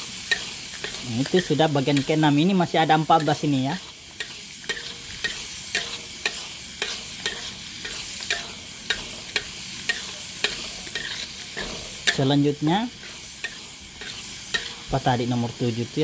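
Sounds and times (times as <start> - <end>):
utensil scraping a pan: 0.0 - 2.3, 3.1 - 12.3, 12.9 - 14.9
vegetables sizzling in a pan: 0.0 - 16.0.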